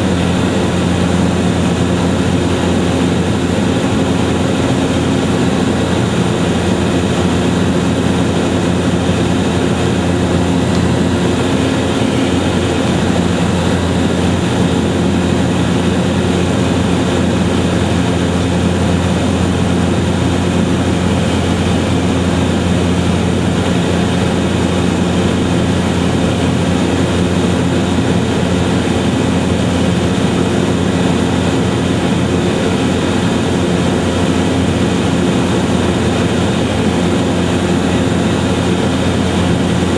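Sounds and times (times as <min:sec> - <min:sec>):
mechanical drone with humming tones: 0:00.0 - 0:39.9.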